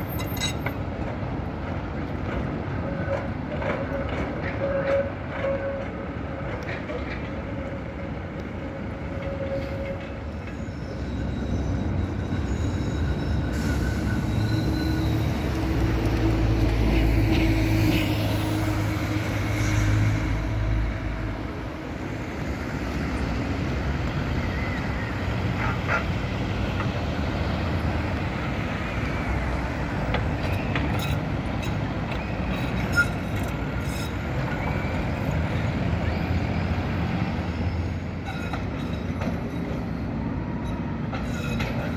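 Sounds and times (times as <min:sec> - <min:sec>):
steel wheel squeal on rails: 0:00.0 - 0:00.8, 0:02.3 - 0:41.9
passing tram rumble: 0:00.0 - 0:41.9
road traffic: 0:00.0 - 0:41.9.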